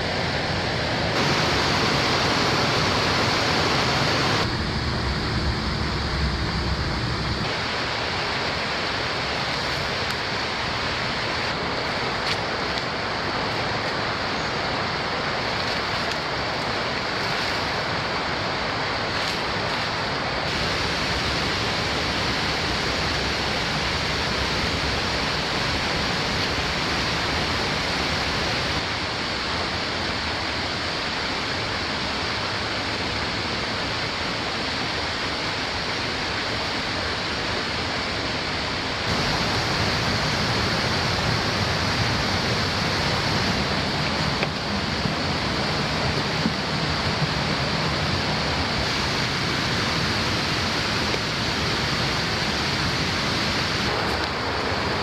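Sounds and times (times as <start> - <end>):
flowing falling water: 0.0 - 55.0.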